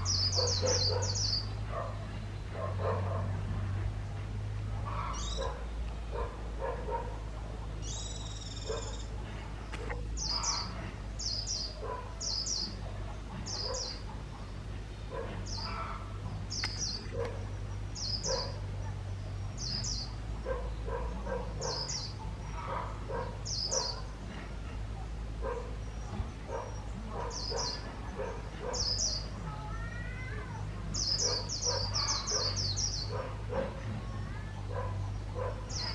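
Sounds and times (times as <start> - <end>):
bird chirping: 0.0 - 3.2, 4.9 - 24.3, 25.4 - 29.6, 30.8 - 33.7, 34.6 - 35.9
steady low hum: 0.0 - 29.6.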